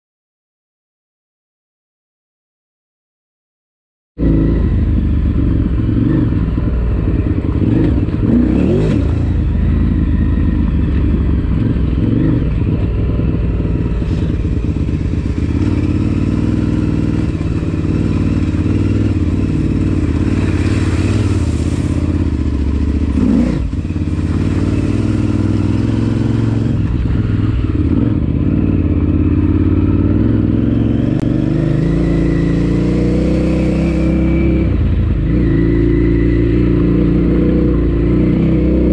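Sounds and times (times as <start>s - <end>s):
motorcycle engine under load: 4.2s - 38.9s.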